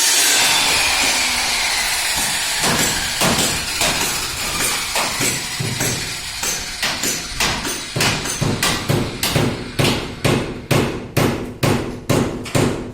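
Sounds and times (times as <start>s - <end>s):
rapid sharp knocks: 2.2s - 12.9s.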